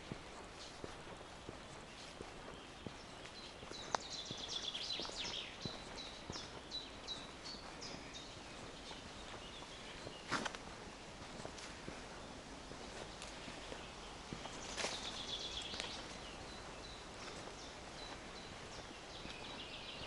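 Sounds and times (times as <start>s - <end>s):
footstep scuff: 0.0s - 16.2s
footsteps on forest path: 0.0s - 20.0s
songbird singing: 0.0s - 20.0s.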